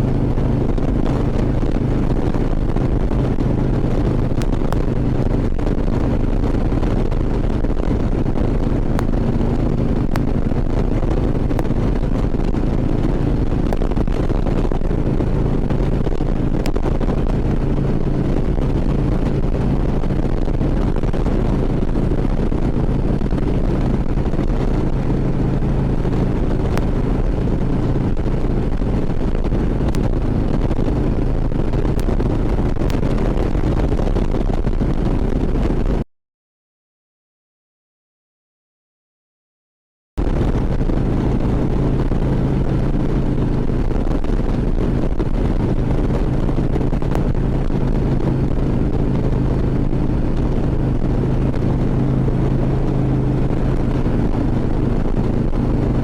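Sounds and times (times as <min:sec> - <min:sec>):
motorcycle engine cruising: 0:00.0 - 0:36.0, 0:40.2 - 0:56.0
wind noise: 0:00.0 - 0:36.0, 0:40.2 - 0:56.0.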